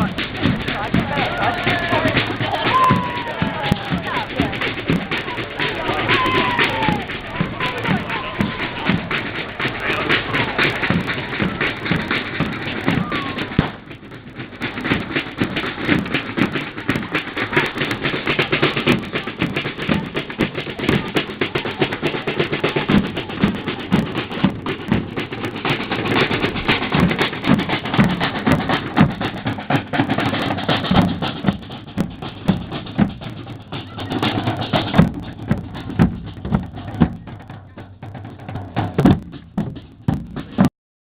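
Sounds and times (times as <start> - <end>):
marching band music: 0.0 - 40.7.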